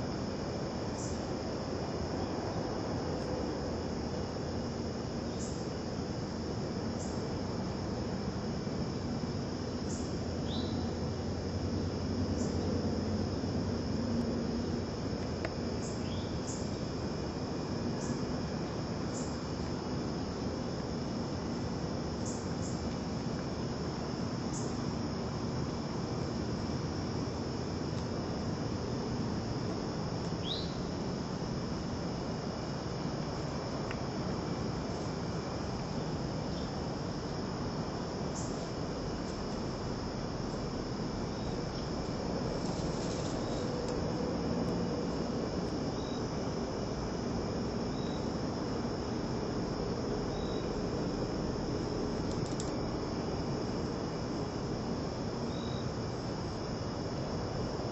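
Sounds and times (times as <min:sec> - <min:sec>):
background hiss: 0:00.0 - 0:57.9
faint insect chirps: 0:00.0 - 0:57.9
insects trilling: 0:00.0 - 0:57.9.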